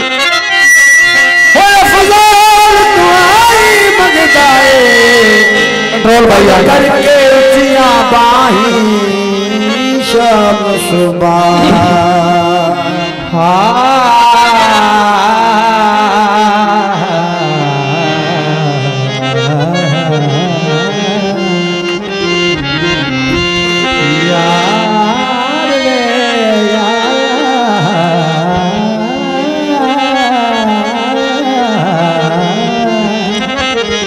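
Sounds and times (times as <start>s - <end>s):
low instrumental drone: 0.0s - 34.0s
man singing long high note: 1.2s - 22.2s, 23.8s - 33.6s.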